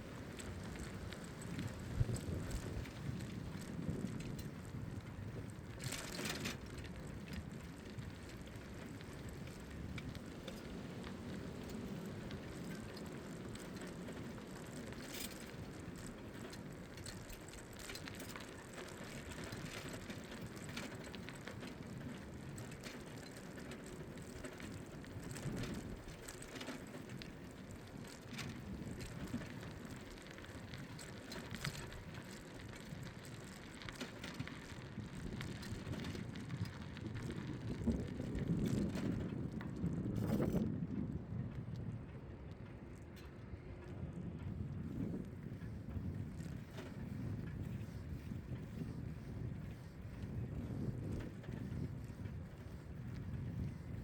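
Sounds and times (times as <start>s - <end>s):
bicycle tyres rolling: 0.0s - 54.0s.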